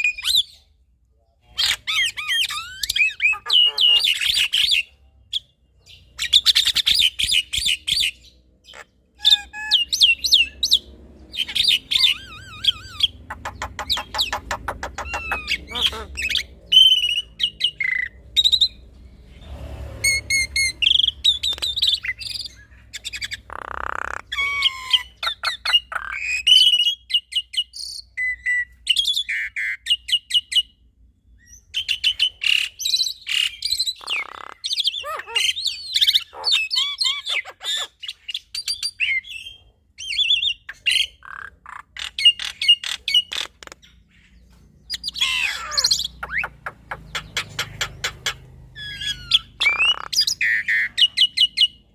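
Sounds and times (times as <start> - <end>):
bird squawks: 1.5 - 4.9, 6.2 - 18.8, 20.0 - 27.1, 31.8 - 38.4, 39.0 - 51.8.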